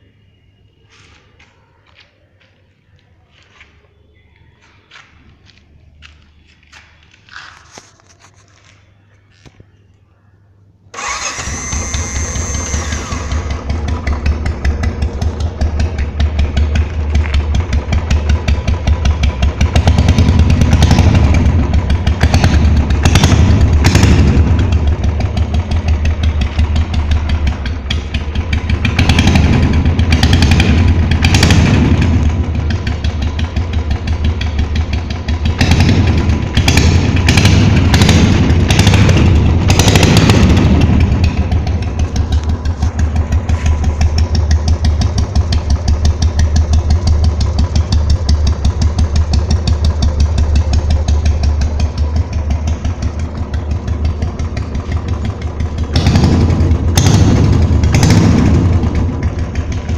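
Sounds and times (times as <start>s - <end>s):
motorcycle engine revving without exhaust: 10.9s - 59.9s.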